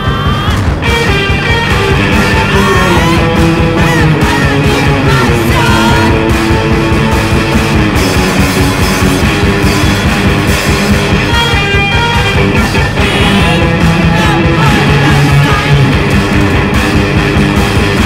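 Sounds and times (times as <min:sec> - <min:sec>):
electric guitars: 0:00.0 - 0:18.0
steady drum beat: 0:00.0 - 0:18.0.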